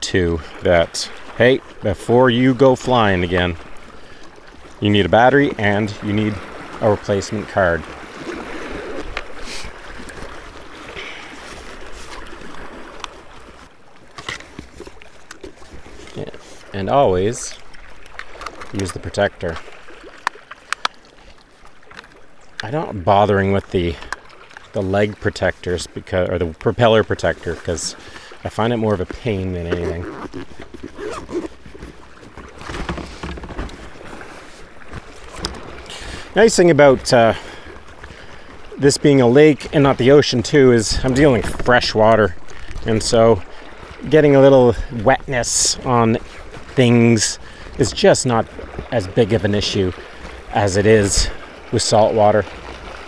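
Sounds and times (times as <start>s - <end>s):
water lapping against kayak hull: 0.0s - 53.0s
wind: 0.0s - 53.0s.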